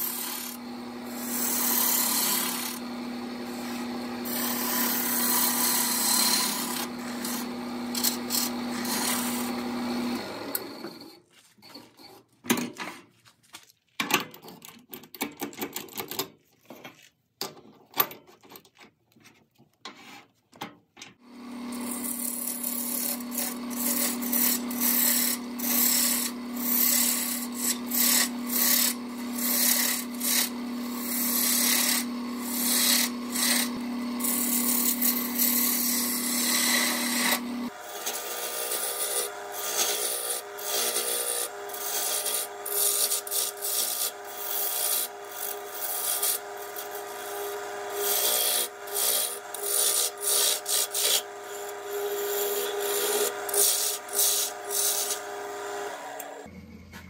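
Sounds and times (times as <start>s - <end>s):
lathe motor hum: 0.0s - 11.1s, 21.3s - 57.0s
gouge scraping spinning wood: 0.0s - 12.1s, 21.3s - 57.0s.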